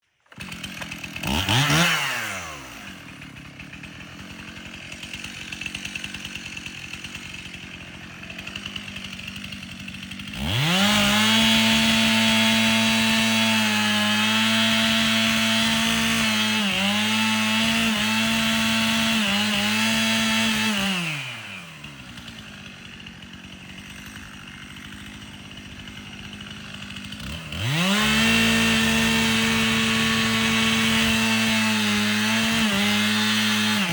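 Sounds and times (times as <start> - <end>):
chainsaw revving and idling: 0.1 - 33.9.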